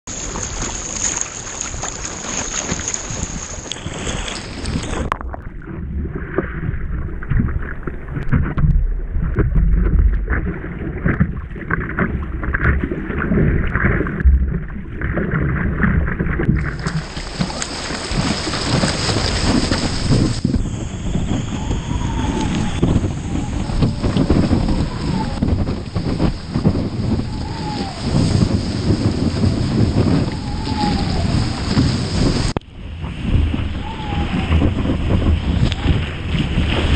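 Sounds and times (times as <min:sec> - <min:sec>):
muffled watery thumps: 0:00.1 - 0:36.9
water splashing around surfboard: 0:00.1 - 0:36.9
wind buffeting microphone: 0:00.1 - 0:36.9.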